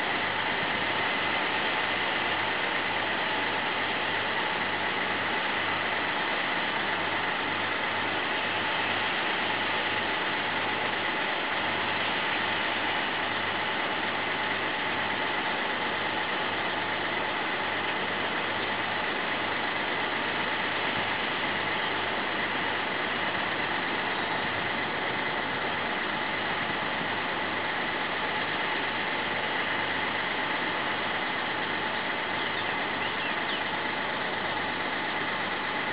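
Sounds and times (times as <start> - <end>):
steady hiss: 0.0 - 35.9.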